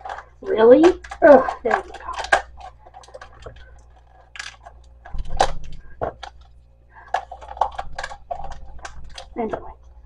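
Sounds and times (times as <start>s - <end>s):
containers clicking and knocking: 0.0s - 9.9s.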